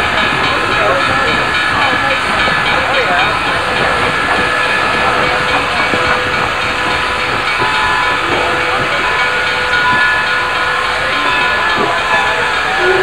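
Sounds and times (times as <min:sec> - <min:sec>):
steam locomotive venting steam: 0:00.0 - 0:13.0.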